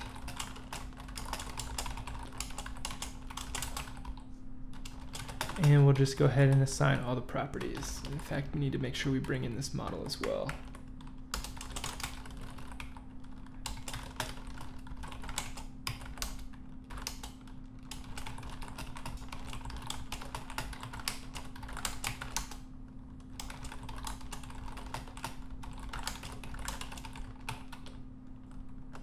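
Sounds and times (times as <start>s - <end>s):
typing on computer keyboard: 0.0s - 4.2s, 4.8s - 6.6s, 9.2s - 29.0s
faint steady hum: 0.0s - 29.0s.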